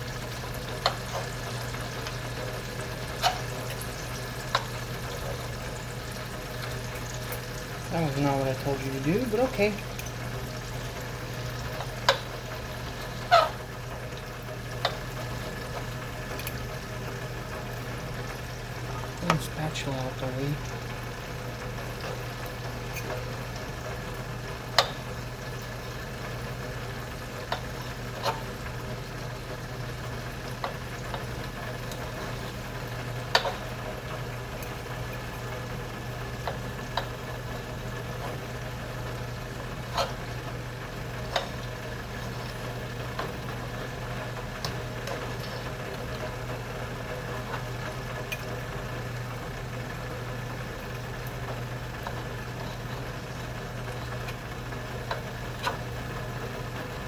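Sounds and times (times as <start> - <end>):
low kitchen hum: 0.0 - 57.0
pan sizzling: 0.0 - 57.0.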